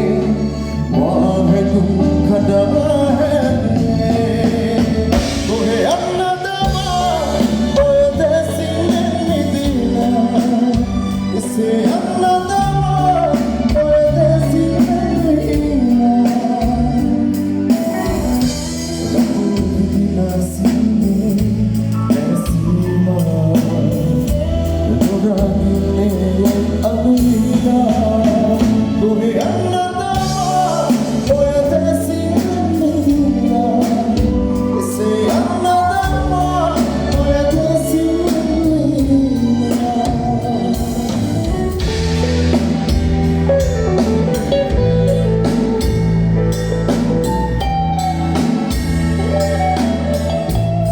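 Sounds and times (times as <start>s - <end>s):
band playing live: 0.0s - 50.9s.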